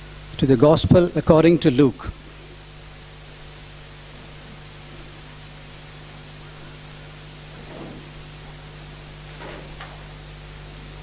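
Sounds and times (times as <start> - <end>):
electrical hum: 0.0 - 11.0
steady hiss: 0.0 - 11.0.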